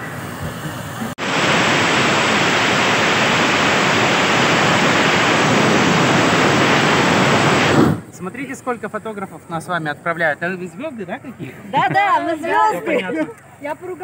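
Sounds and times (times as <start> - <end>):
loud steady rushing hiss: 0.0 - 11.4.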